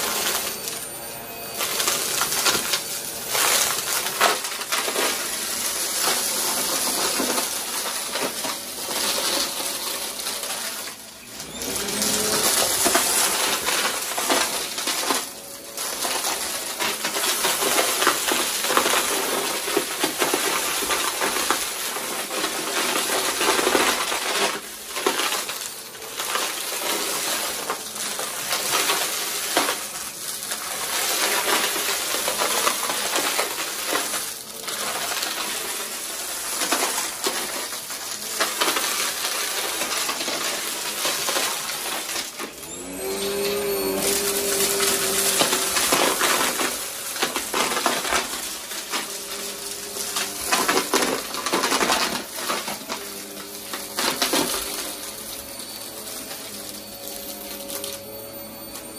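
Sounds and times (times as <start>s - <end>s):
vacuum motor hum: 0.0s - 58.9s
vacuum sucking up coins and debris: 0.0s - 58.9s.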